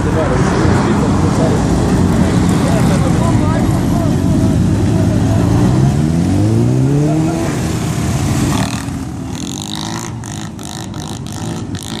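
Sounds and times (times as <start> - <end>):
motorcycle engine revving: 2.0 - 12.0.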